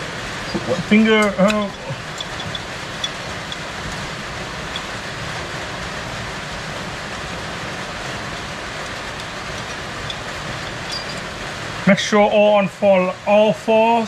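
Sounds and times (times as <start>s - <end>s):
fan-like workshop hiss: 0.0s - 14.0s.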